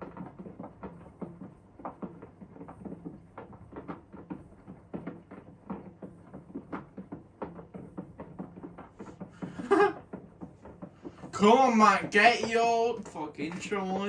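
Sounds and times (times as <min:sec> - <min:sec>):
washing machine drum tumbling: 0:00.0 - 0:14.0
wet laundry and water patters: 0:00.0 - 0:14.0.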